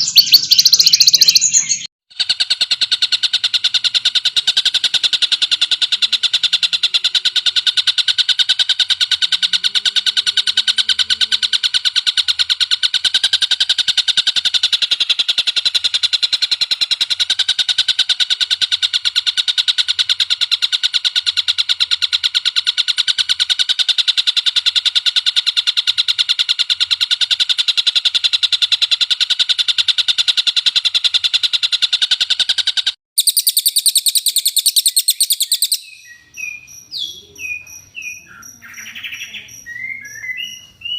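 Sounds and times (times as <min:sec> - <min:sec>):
songbird trilling: 0:00.0 - 0:26.0, 0:30.3 - 0:40.9.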